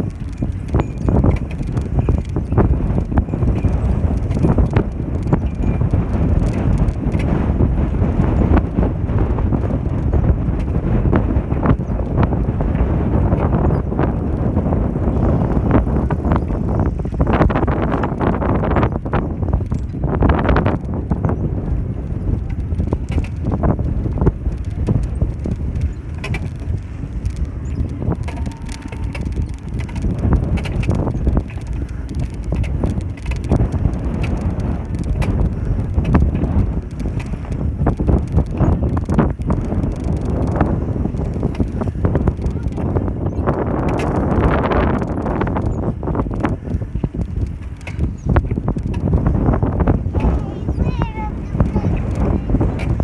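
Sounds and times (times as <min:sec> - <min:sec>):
bicycle clattering knocks: 0:00.0 - 0:53.0
wind on microphone: 0:00.0 - 0:53.0.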